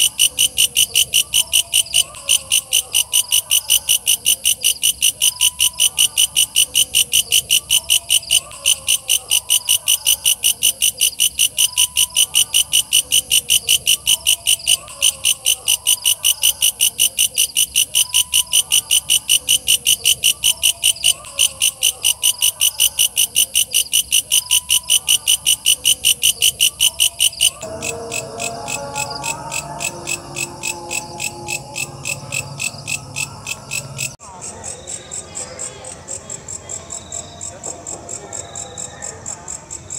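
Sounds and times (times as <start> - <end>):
bush cricket chirping: 0.0 - 35.2.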